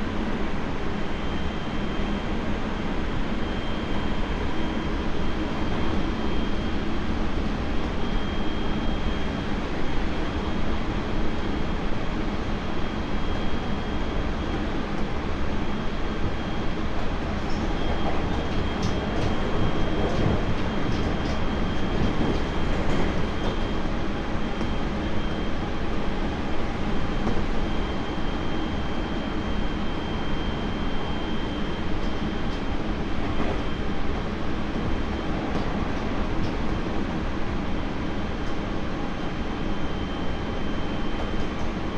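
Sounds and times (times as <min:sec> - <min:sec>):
train wheels rumbling on rail: 0:01.8 - 0:28.8, 0:31.8 - 0:39.1.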